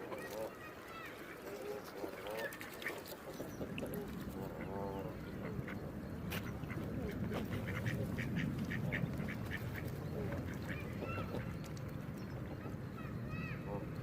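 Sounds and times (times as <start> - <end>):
ducks quacking: 0.0 - 11.8, 12.4 - 14.0
steady low background noise: 0.0 - 14.0.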